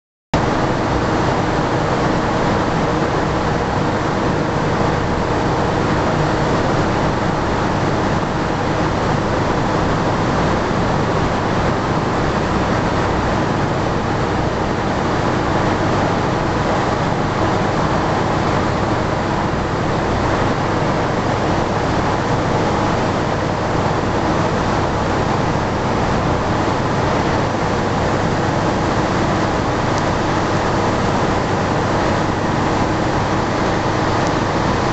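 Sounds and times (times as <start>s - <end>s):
turbine machine noise: 0.4s - 34.9s.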